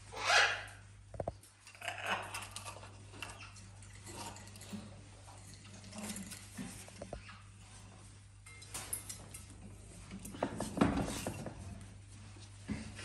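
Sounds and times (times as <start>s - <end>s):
animal pawing with clicks and rustling: 1.1s - 13.0s.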